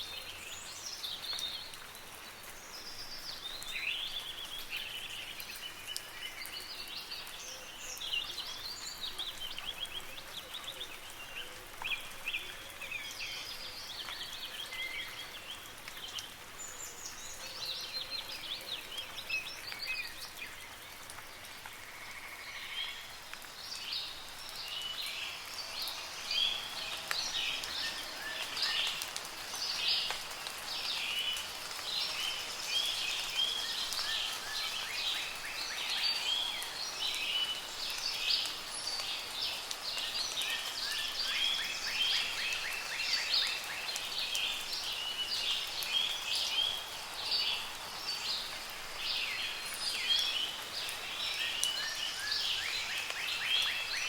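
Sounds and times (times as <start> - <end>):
rain pattering: 0.0 - 54.0
songbirds chirping and trilling: 0.0 - 54.0.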